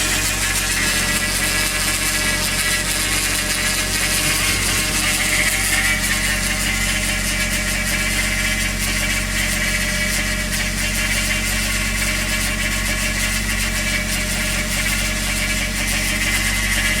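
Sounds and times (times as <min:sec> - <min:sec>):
car engine idling: 0:00.0 - 0:17.0
high-pitched whine: 0:00.0 - 0:17.0.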